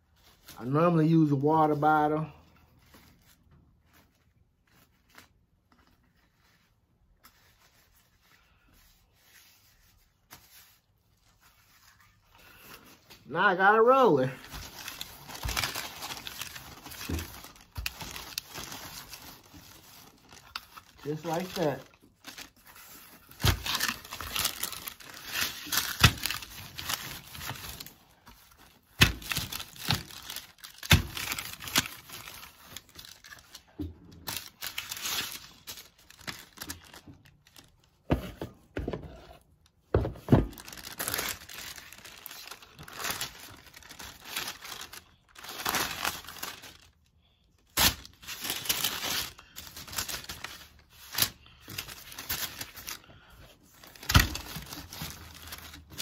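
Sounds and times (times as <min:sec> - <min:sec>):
paper and plastic crinkling: 0:00.0 - 0:56.0.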